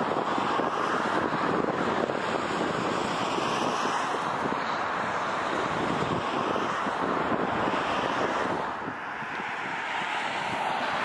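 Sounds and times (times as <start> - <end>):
jet engine roar: 0.0 - 11.0
wind buffeting microphone: 0.0 - 11.0.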